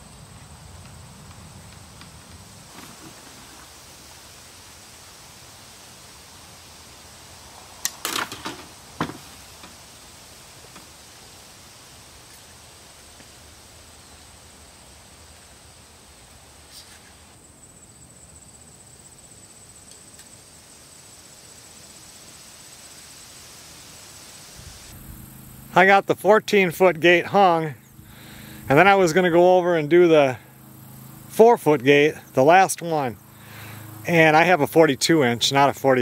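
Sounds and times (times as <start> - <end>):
outdoor hiss: 0.0 - 36.0.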